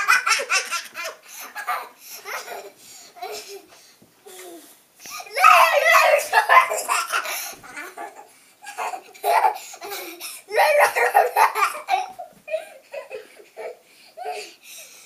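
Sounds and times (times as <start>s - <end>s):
young children laughing: 0.0s - 3.7s, 5.2s - 14.6s.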